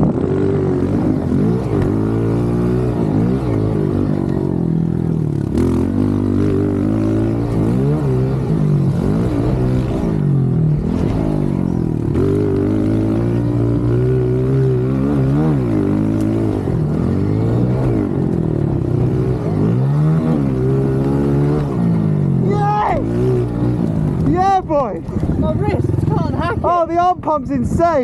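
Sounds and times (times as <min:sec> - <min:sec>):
motorbike engine revving: 0:00.0 - 0:27.8.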